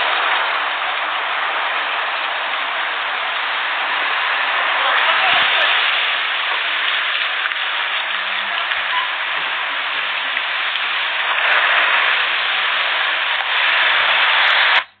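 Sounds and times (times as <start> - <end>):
rain on wet pavement: 0.0 - 15.0.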